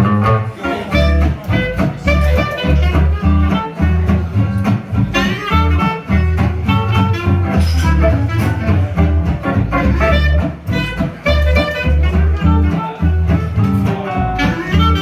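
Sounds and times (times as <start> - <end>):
gypsy jazz guitar: 0.0 - 15.0
plucked double bass: 0.0 - 15.0.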